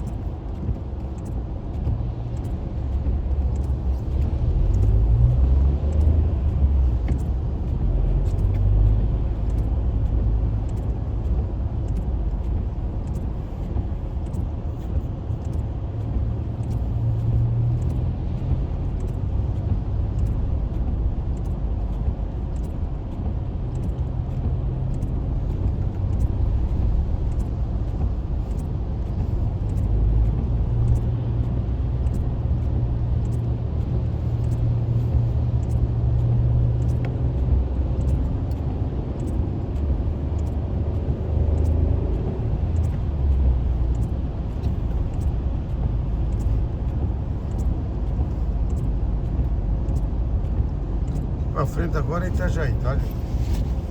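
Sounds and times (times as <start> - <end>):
engine and tyre rumble: 0.0 - 53.9
faint ticks: 0.0 - 53.9.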